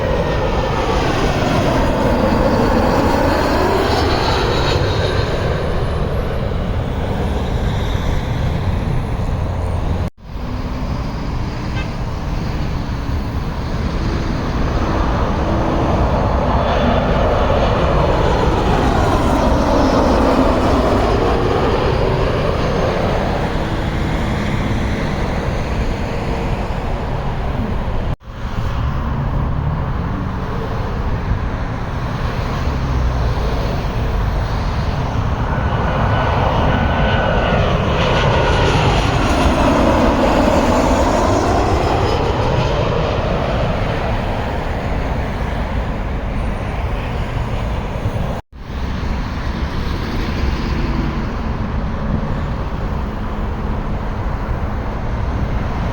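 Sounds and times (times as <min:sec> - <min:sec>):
jet airliner engines rumbling: 0:00.0 - 0:55.9.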